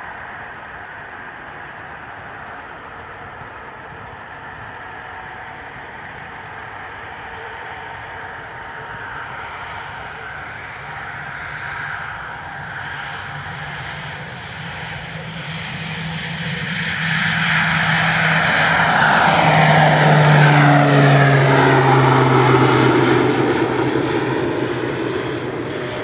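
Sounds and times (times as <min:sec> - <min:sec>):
turboprop aircraft taking off: 0:00.0 - 0:26.0.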